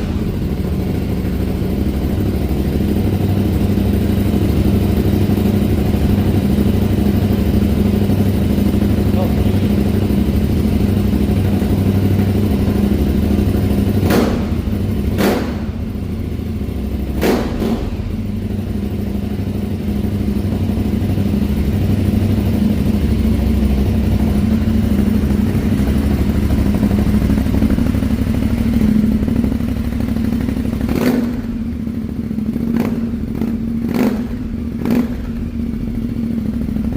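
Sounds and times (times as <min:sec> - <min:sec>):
motorcycle engine exhaust note: 0:00.0 - 0:36.9.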